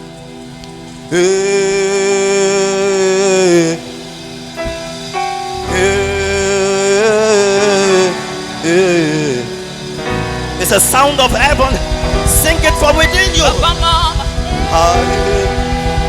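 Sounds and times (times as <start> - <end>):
gospel singing with vibrato: 0.0 - 16.0
sustained keyboard chords: 0.0 - 16.0.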